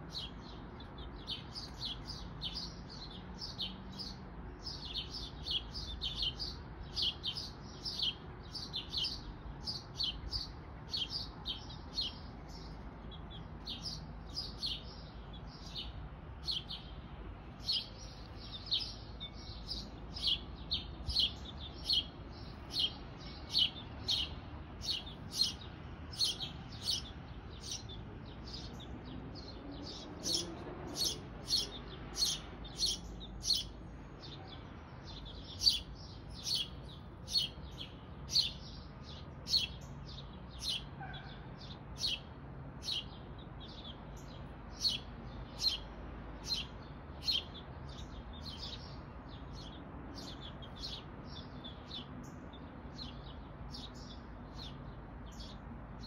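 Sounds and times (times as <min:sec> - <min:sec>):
small songbird chirping: 0:00.0 - 0:56.0.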